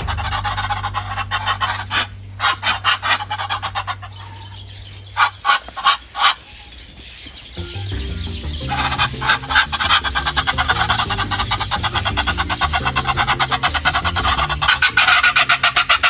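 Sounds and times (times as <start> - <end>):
background music with bass: 0.0 - 5.2, 7.5 - 16.0.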